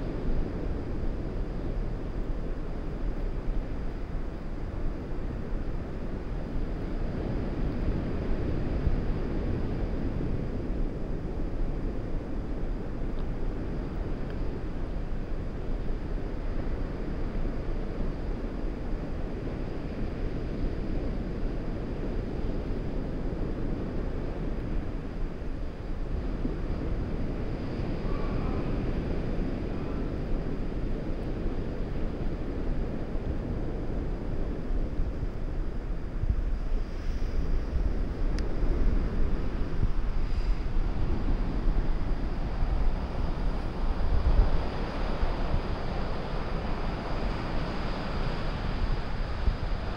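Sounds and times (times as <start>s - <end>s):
outdoor rush of air: 0.0s - 49.9s
wind buffeting microphone: 0.0s - 49.9s.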